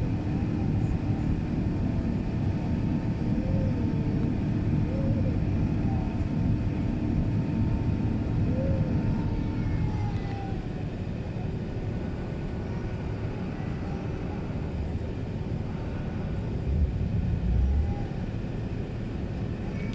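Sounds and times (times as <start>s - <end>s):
aircraft cabin engine rumble: 0.0s - 19.9s.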